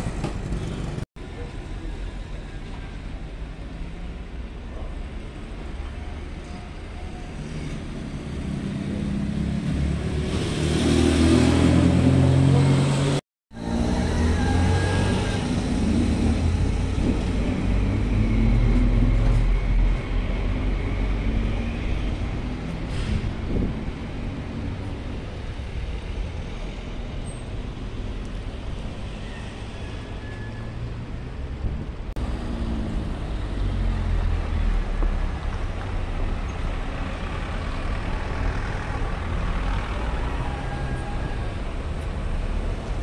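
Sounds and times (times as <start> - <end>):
road noise: 0.0 - 43.0.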